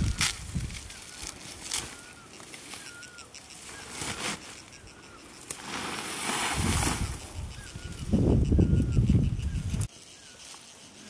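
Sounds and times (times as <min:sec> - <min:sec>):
bird chirping: 0:00.8 - 0:05.5, 0:06.7 - 0:11.0.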